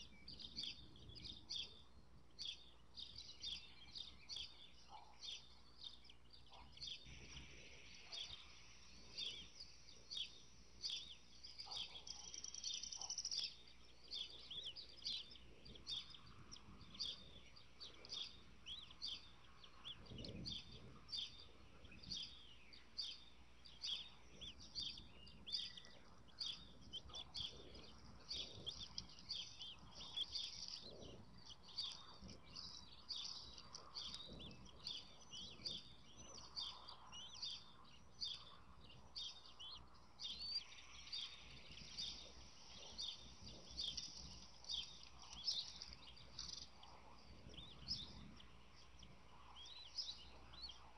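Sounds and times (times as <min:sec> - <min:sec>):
eagle chicks peeping: 0:00.0 - 0:50.9.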